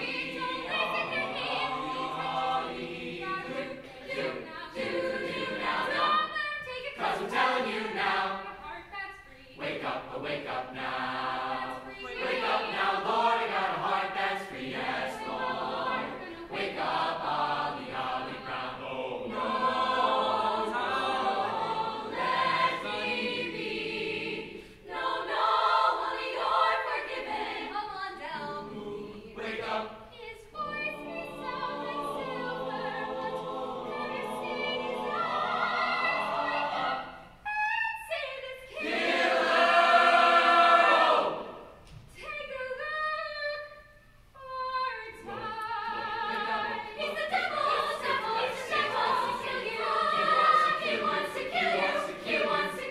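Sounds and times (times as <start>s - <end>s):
mixed choir singing: 0.0s - 43.8s, 44.4s - 52.9s.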